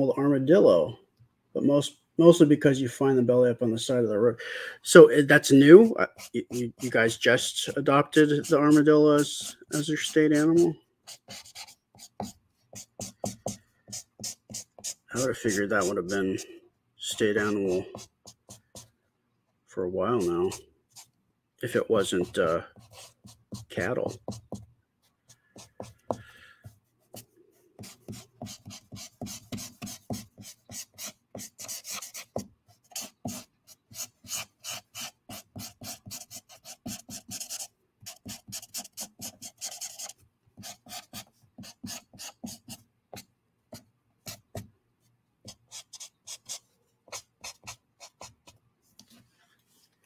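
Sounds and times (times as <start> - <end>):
marker strokes on paper: 5.6 - 19.0, 20.1 - 21.1, 21.7 - 50.0.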